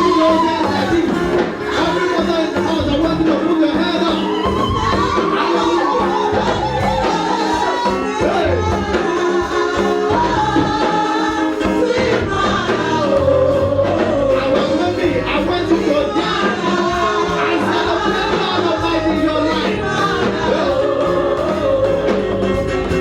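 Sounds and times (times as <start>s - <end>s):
gospel singing over a band: 0.0s - 23.0s.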